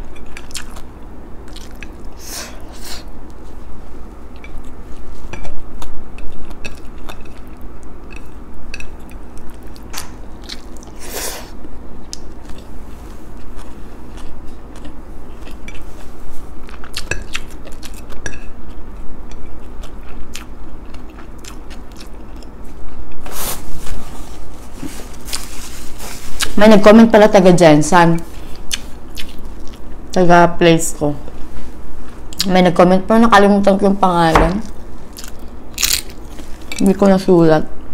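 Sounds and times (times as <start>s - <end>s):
person chewing and crunching food: 0.0s - 26.6s, 28.3s - 30.2s, 34.6s - 36.9s.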